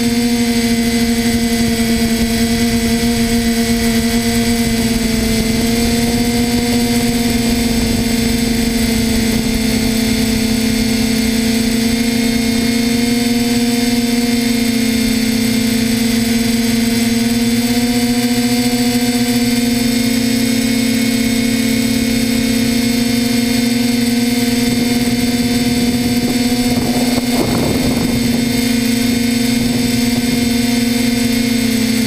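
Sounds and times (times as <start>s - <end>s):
drone motors humming: 0.0s - 32.0s.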